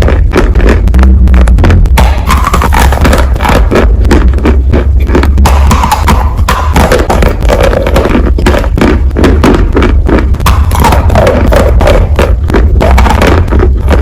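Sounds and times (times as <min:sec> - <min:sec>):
chewing and crunching food: 0:00.0 - 0:14.0
steady low rumble: 0:00.0 - 0:14.0.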